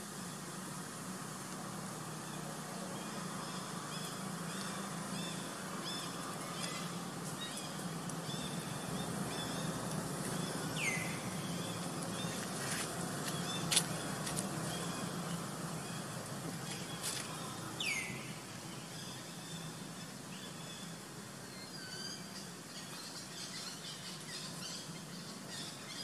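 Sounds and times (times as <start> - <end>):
steady low hum: 0.0 - 26.0
bird chirping: 3.0 - 26.0.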